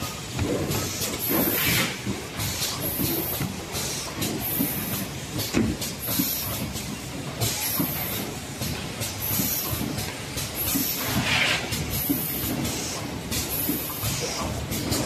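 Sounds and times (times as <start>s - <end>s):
machine mechanical clatter: 0.0s - 15.0s.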